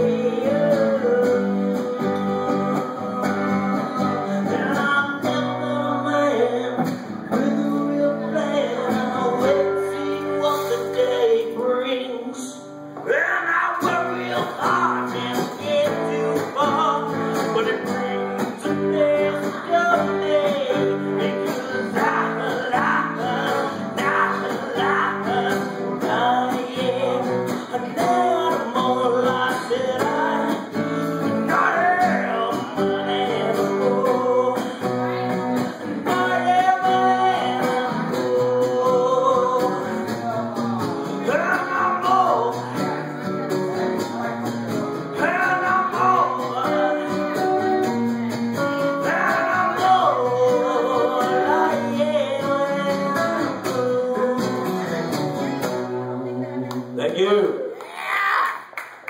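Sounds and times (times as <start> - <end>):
live rock music: 0.0 - 57.0
electric guitar: 0.0 - 57.1
person singing: 0.0 - 58.8.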